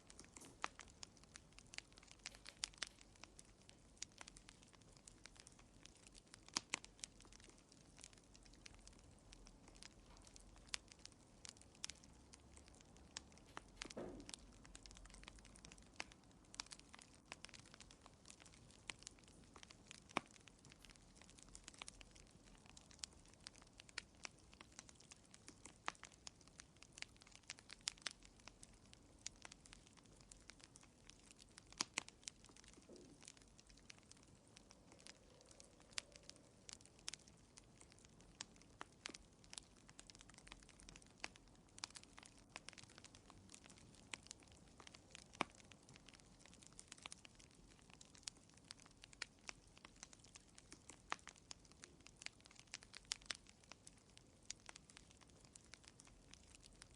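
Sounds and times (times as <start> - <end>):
faint low hiss: 0.0 - 56.9
wood fire crackling and popping: 0.0 - 56.9.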